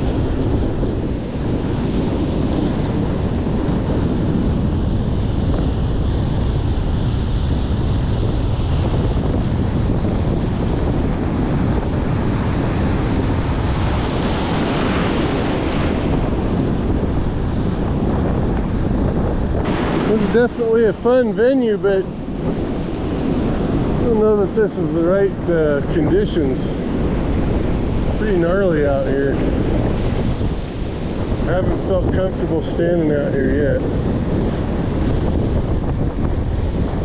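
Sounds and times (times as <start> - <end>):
ocean surf breaking: 0.0 - 37.0
wind buffeting microphone: 0.0 - 37.0.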